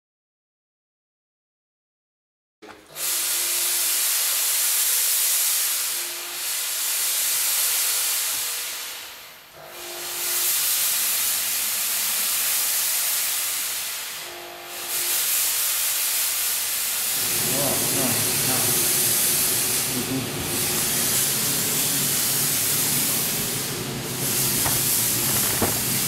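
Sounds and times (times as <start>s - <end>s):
smoke machine hissing: 3.0s - 9.4s, 10.2s - 26.0s.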